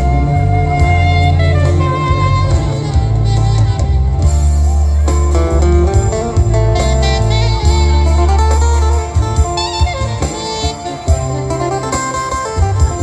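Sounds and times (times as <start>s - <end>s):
amplified music with heavy bass: 0.0s - 13.0s.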